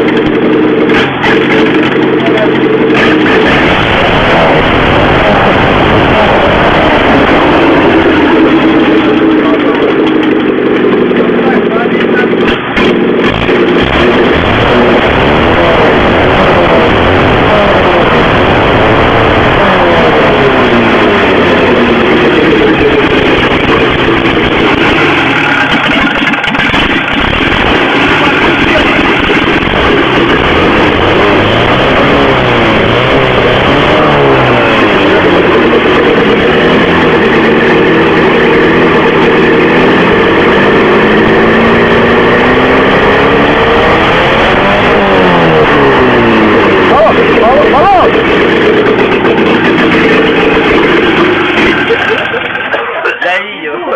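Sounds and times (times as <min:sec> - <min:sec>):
car engine revving: 0:00.0 - 0:53.2.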